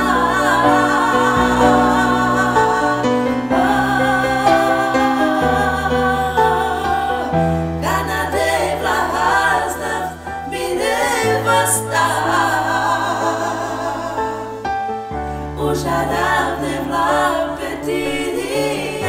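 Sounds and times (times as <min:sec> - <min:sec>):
voices singing together: 0:00.0 - 0:19.0.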